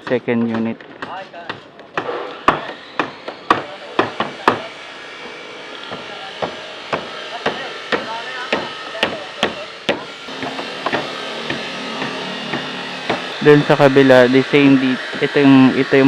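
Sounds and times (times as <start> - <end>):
hammer blows: 0.0 - 16.0.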